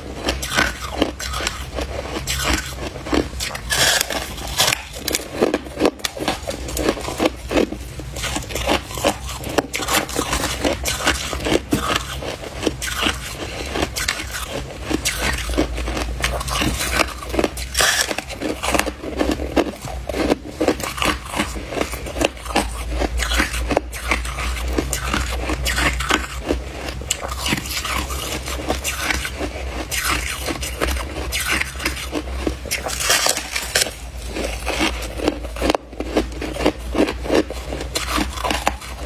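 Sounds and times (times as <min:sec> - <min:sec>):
ice crunching between teeth: 0:00.0 - 0:39.0
low steady hum: 0:00.0 - 0:39.0.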